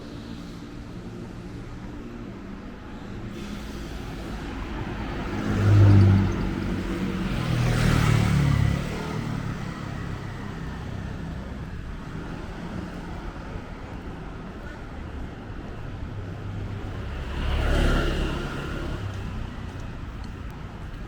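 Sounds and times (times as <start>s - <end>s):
traffic passing on street: 0.0s - 21.0s.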